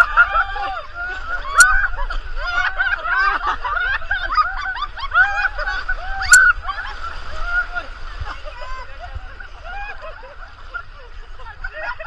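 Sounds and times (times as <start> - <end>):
group of people laughing: 0.0 - 12.0.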